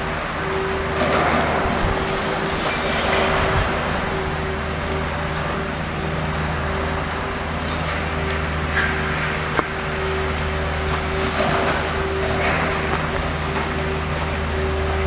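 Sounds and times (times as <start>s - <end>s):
heavy truck driving away: 0.0s - 15.0s
machinery hum: 0.0s - 15.0s.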